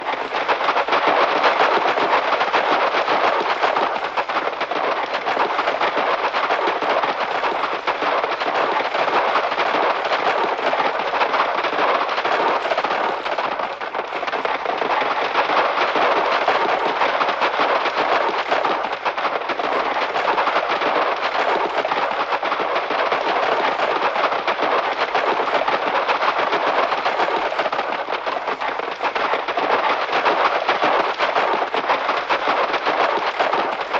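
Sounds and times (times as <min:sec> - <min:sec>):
many horses galloping: 0:00.0 - 0:33.9.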